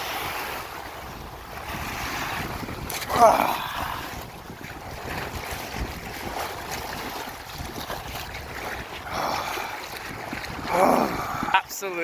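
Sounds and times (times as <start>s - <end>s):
moving water: 0.0s - 12.0s
wind buffeting microphone: 0.0s - 12.0s.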